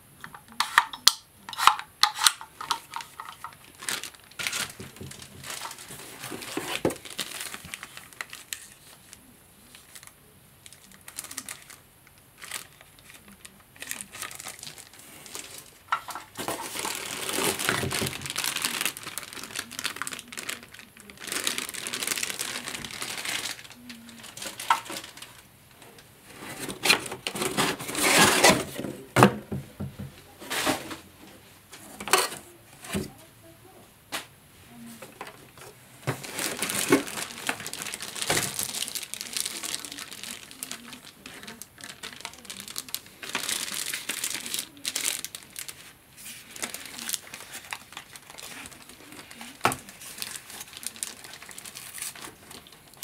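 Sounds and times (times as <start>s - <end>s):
plastic bags crinkling: 0.3s - 28.9s, 35.0s - 53.0s.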